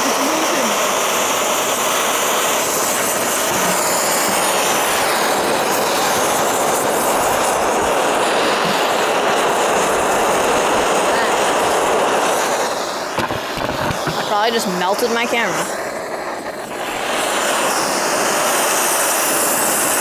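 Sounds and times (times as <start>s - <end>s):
propane torch hissing: 0.0s - 20.0s.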